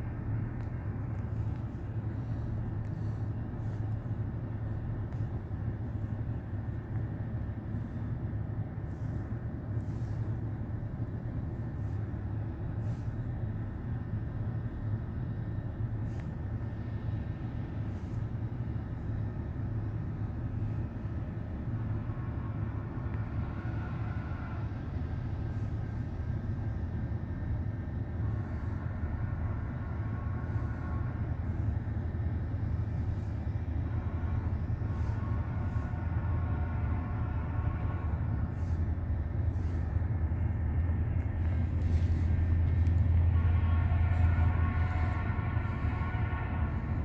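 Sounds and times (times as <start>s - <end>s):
freight train rumbling past: 0.0s - 47.0s.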